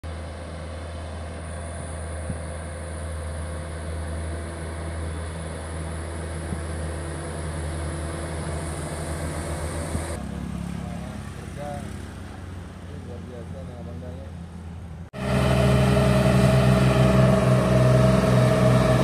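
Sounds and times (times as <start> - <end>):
diesel truck engine climbing: 0.0 - 19.0.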